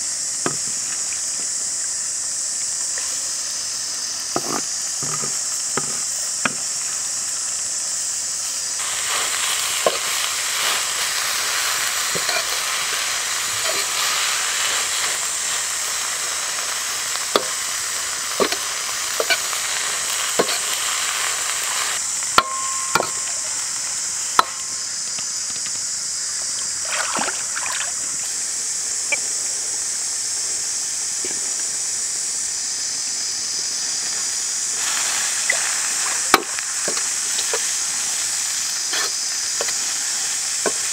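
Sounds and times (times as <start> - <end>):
food sizzling in a wok: 0.0 - 40.9.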